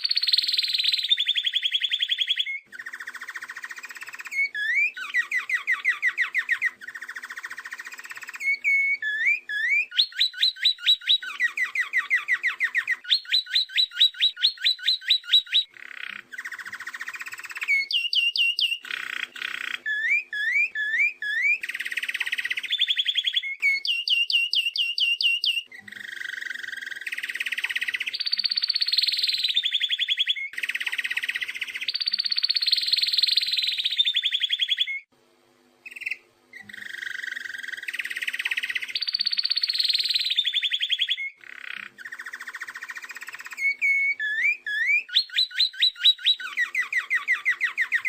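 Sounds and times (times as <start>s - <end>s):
songbird whistling and trilling: 0.0s - 35.1s, 35.8s - 48.0s.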